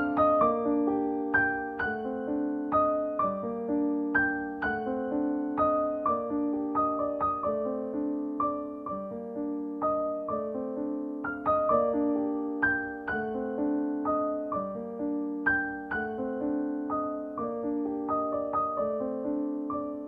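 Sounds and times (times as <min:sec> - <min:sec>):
piano playing: 0:00.0 - 0:20.0.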